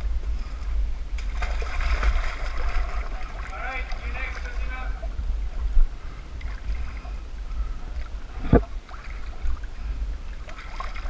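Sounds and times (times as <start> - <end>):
low microphone rumble: 0.0 - 11.0
water sloshing and splashing: 1.1 - 11.0.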